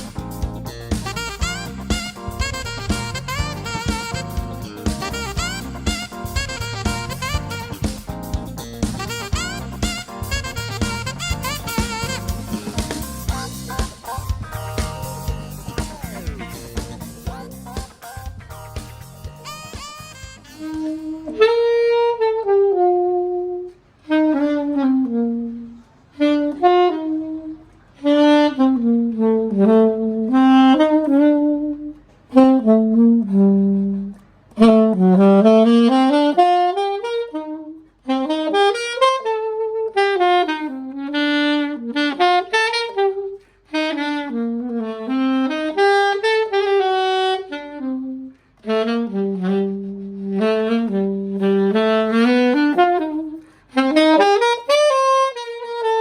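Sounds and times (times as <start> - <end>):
saxophone solo melody: 0.0 - 56.0.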